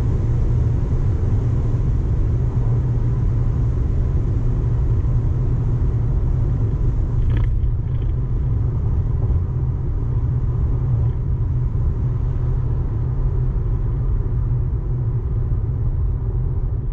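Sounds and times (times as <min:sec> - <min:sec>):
tyre and wind rumble in car: 0:00.0 - 0:16.9.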